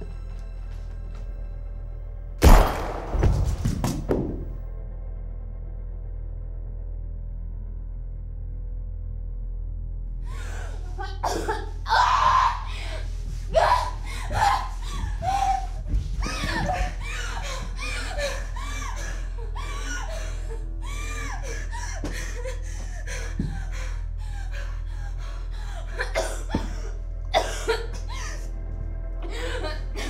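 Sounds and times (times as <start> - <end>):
tense music with low drone: 0.0 - 30.0.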